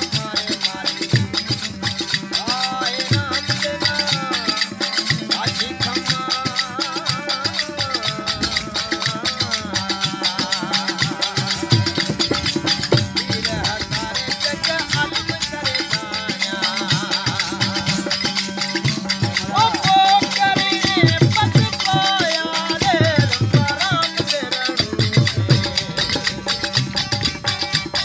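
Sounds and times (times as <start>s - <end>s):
drum beats: 0.0s - 28.0s
high percussion rattle: 0.0s - 28.0s
wavering instrumental melody: 0.0s - 28.0s.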